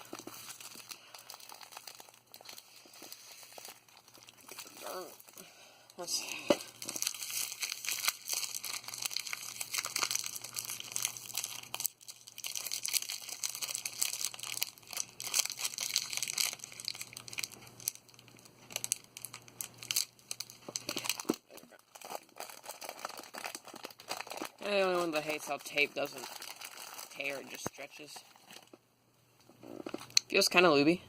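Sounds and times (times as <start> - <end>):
packaging crinkling: 0.0 - 5.4, 6.4 - 28.8
packing tape stretching: 0.0 - 5.4, 6.7 - 28.7.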